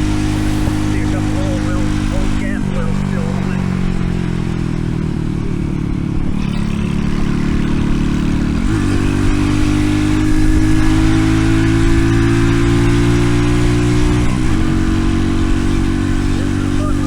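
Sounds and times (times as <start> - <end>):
minibike engine running: 0.0 - 17.0.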